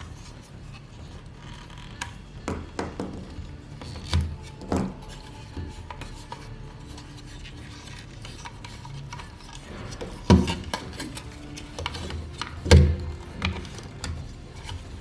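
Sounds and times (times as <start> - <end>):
toy parts rubbing and clicking: 0.0 - 15.0.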